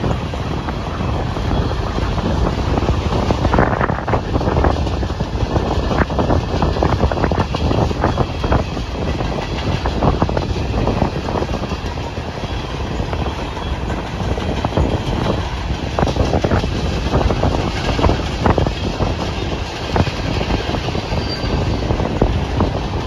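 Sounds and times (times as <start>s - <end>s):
freight train wheels rumbling: 0.0s - 23.0s
wheels clacking over rail joints: 0.0s - 23.0s.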